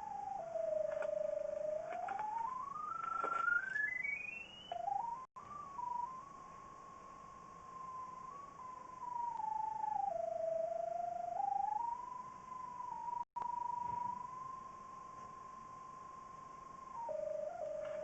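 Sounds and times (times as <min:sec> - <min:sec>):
electronic locator tone: 0:00.0 - 0:18.0.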